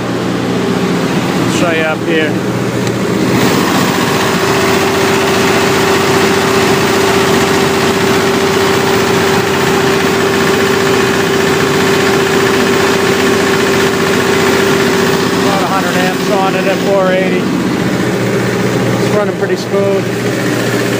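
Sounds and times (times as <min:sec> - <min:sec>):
diesel generator running: 0:00.0 - 0:20.9
steady whine: 0:00.0 - 0:20.9.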